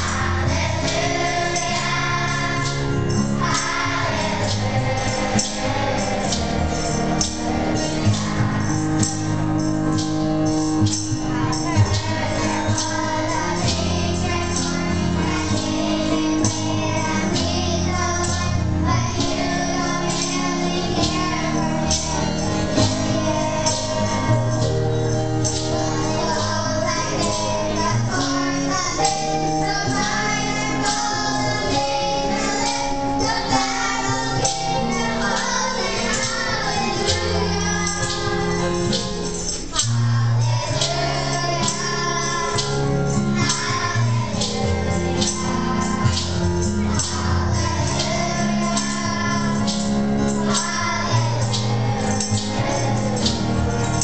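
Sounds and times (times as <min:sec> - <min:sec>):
children's choir singing: 0:00.0 - 0:54.0
instrumental accompaniment: 0:00.0 - 0:54.0
percussion beat: 0:00.0 - 0:54.0.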